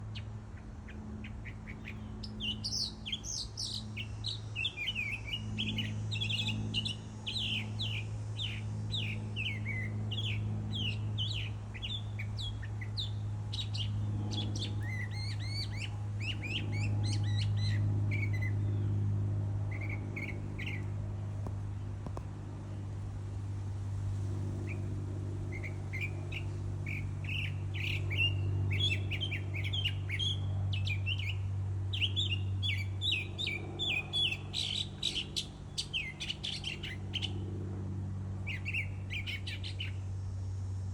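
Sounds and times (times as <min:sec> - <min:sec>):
low hum: 0:00.0 - 0:40.9
songbird chirping and trilling: 0:00.1 - 0:23.4, 0:24.5 - 0:40.1.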